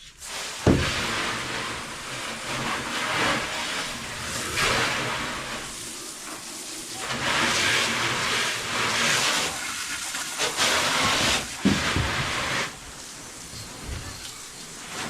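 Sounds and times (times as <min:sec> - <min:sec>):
water jet spraying: 0:00.0 - 0:15.0.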